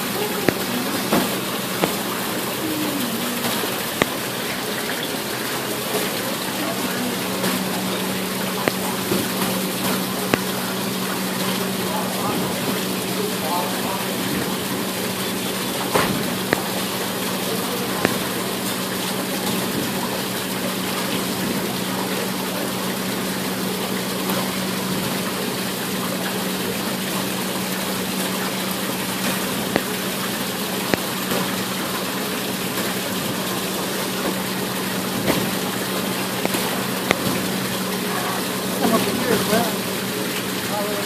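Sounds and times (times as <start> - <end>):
fountain water splashing: 0.0 - 41.0.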